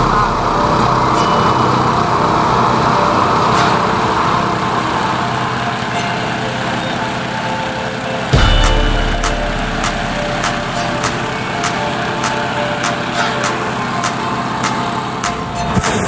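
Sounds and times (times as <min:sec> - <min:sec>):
small petrol engine running: 0:00.0 - 0:16.0.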